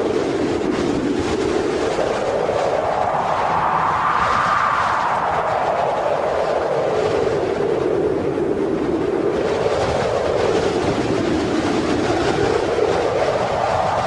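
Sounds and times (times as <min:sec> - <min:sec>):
wind blowing: 0:00.0 - 0:14.0.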